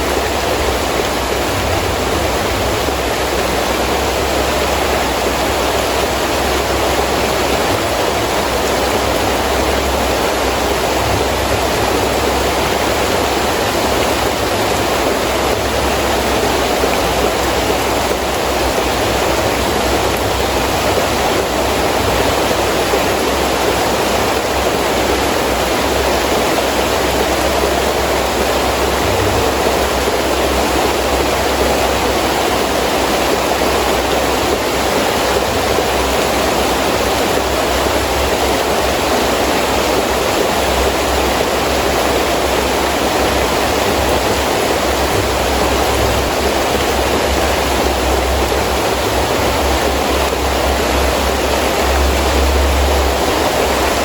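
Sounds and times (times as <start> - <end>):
heavy rain pouring: 0.0 - 54.0
wind rumble: 0.0 - 54.0.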